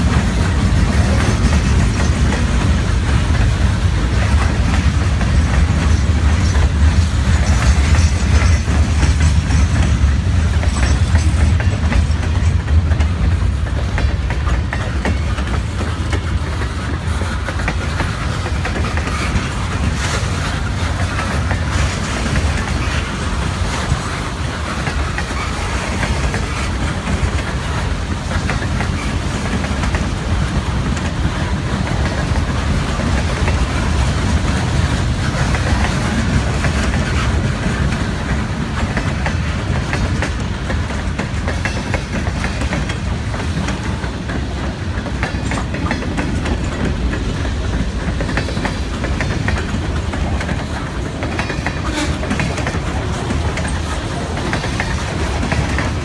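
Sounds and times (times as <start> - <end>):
steel wheels rolling on rail: 0.0 - 56.0
wheels clacking over rail joints: 0.0 - 56.0.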